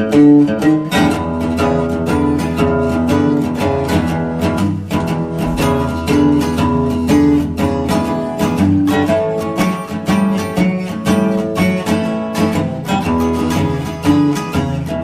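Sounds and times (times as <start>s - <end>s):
guitar music with bass and beat: 0.0s - 15.0s.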